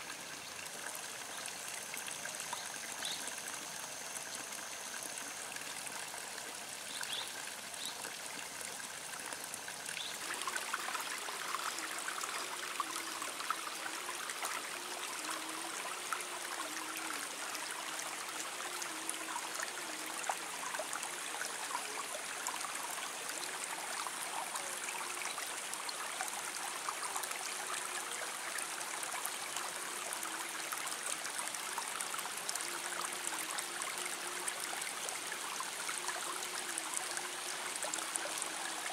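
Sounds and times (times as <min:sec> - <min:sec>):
steadily running water: 0:00.0 - 0:38.9.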